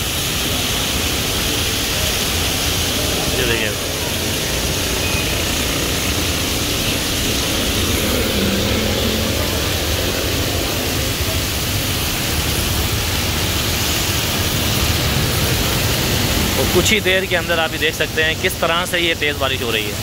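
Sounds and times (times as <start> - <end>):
heavy rain on a road: 0.0 - 20.0
vehicles driving through water: 0.0 - 20.0.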